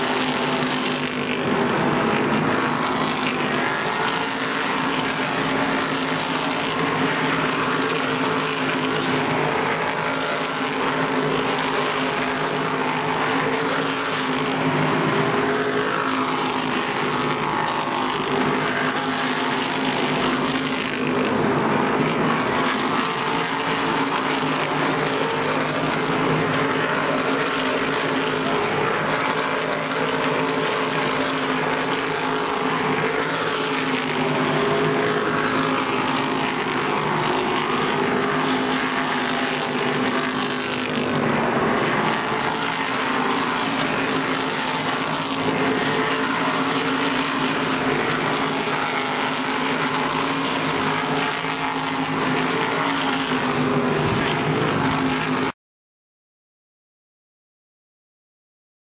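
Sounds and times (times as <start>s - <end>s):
race car engines droning: 0.0s - 55.5s.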